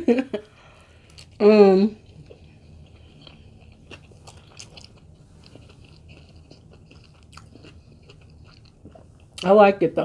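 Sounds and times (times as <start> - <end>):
person chewing crunchy food: 0.7 - 1.4, 2.0 - 9.4.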